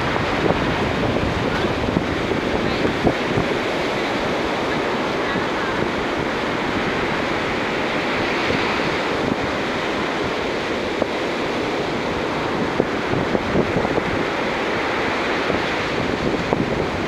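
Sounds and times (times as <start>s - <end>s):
ocean surf breaking on beach: 0.0s - 17.0s
wind rumbling on microphone: 0.0s - 17.0s.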